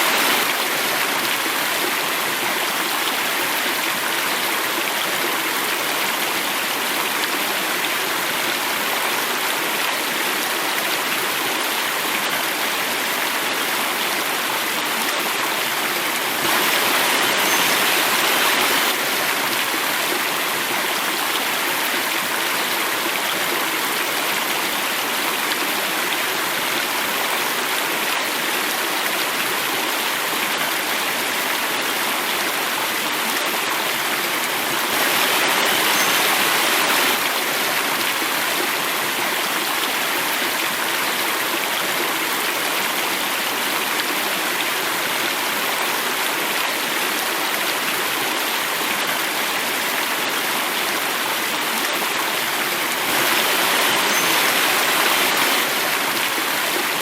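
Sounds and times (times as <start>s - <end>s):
water cascading: 0.0s - 57.0s.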